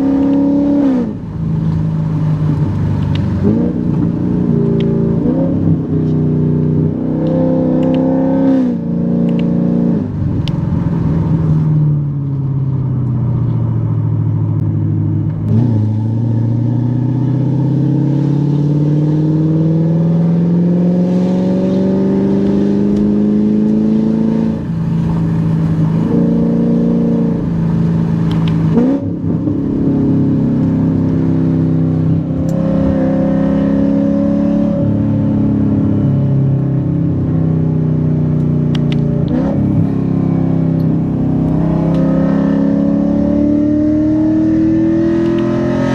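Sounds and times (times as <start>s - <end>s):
car engine revving hard: 0.0s - 1.2s, 2.1s - 10.2s, 15.4s - 36.6s, 38.8s - 45.9s.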